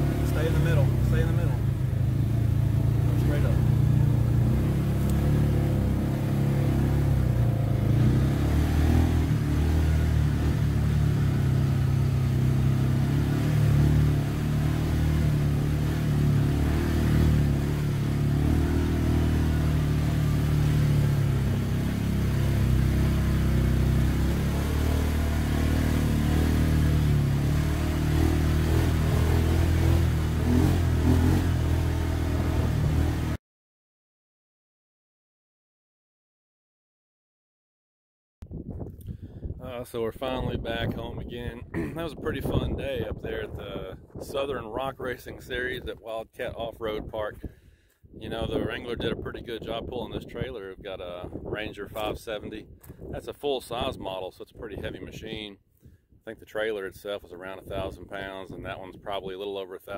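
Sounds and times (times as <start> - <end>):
vehicle engine and road rumble: 0.0 - 33.4, 38.5 - 59.9.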